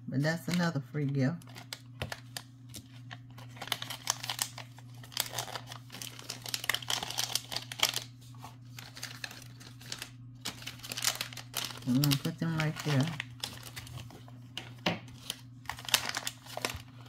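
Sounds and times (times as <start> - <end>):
steady low hum: 0.0 - 17.0
plastic bags crinkling: 1.4 - 17.0.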